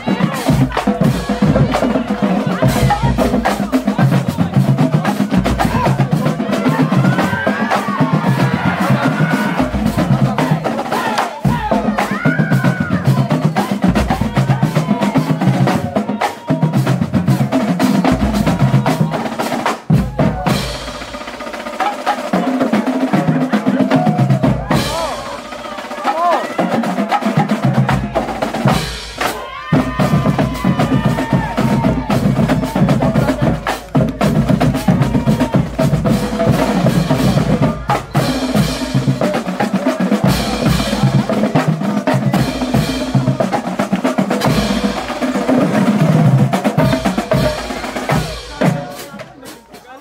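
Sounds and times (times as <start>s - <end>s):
bass drum beat: 0.0s - 50.0s.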